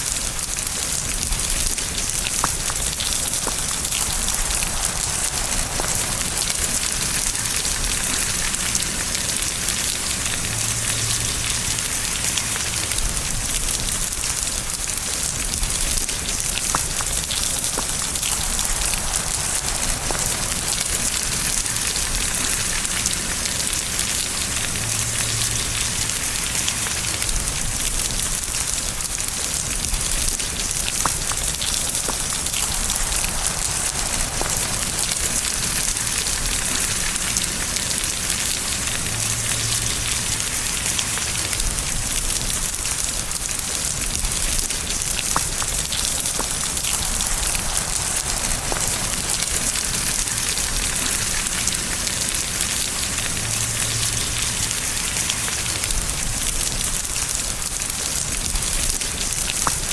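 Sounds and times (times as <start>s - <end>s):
rain pattering on a surface: 0.0s - 59.9s.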